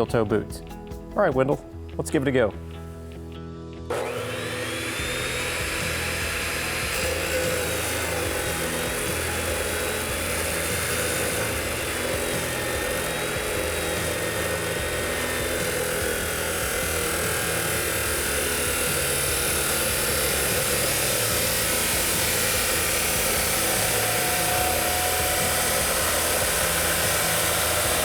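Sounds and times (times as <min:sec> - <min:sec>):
chop saw whining and grinding: 0:03.8 - 0:28.0.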